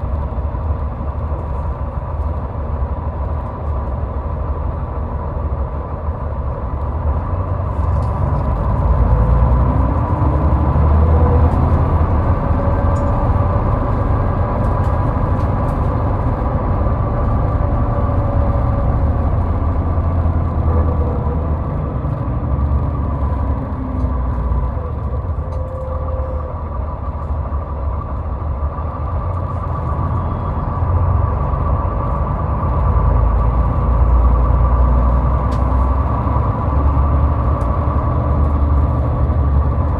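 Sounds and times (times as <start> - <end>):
tyre and engine rumble: 0.0 - 39.9.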